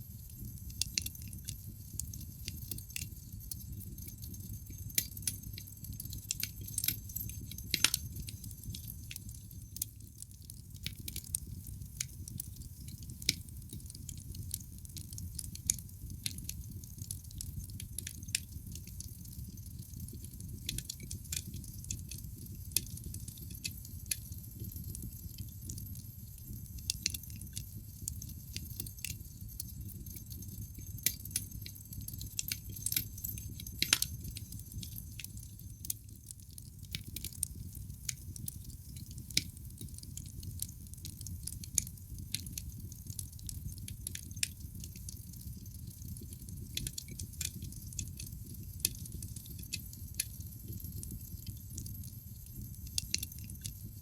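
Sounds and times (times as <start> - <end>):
fire crackles and pops: 0.0 - 54.0
logs burning in fireplace: 0.0 - 54.0.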